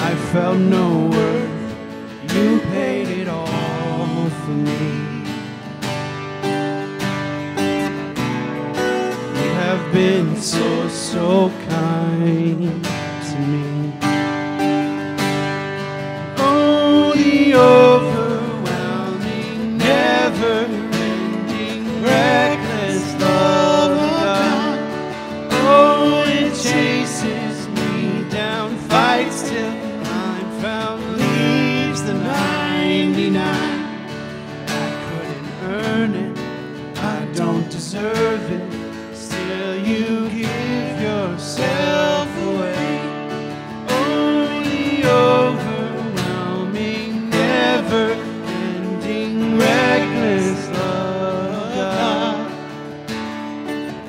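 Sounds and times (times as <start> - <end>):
men singing a worship song: 0.0 - 5.4, 9.4 - 13.6, 16.4 - 36.4, 37.0 - 52.7
acoustic guitars strumming: 0.0 - 54.0.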